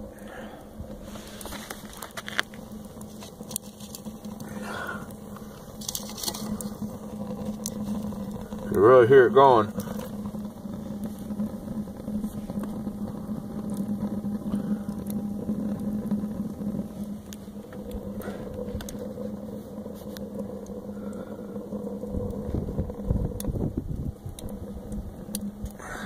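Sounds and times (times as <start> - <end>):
low rumble: 0.0 - 26.0
stove fire rushing draft: 0.0 - 26.0
wood crackling: 0.0 - 26.0.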